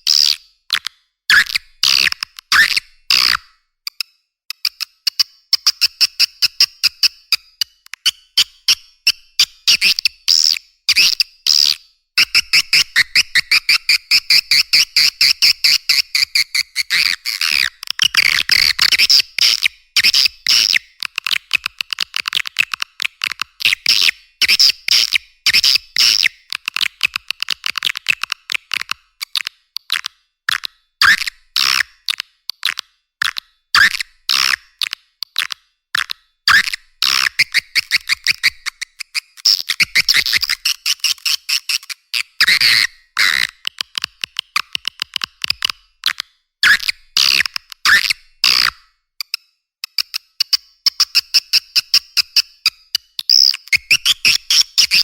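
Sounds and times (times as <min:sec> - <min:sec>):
swiftlet clicks and chirps: 0:01.8 - 0:08.8, 0:11.5 - 0:55.0.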